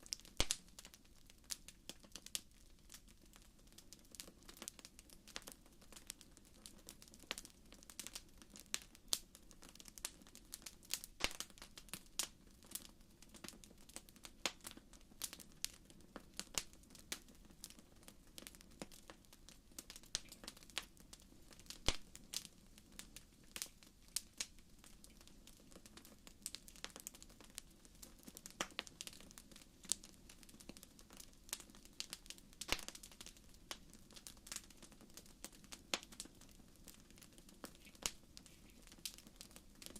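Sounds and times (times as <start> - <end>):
soft low fire hiss: 0.0 - 39.9
wood fire crackling and popping: 0.0 - 39.9.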